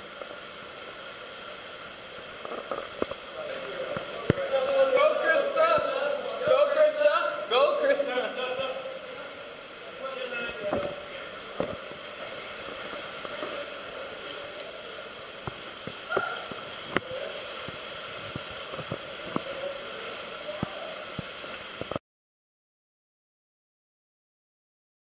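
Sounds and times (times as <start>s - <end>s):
running water in a cave: 0.0s - 22.0s.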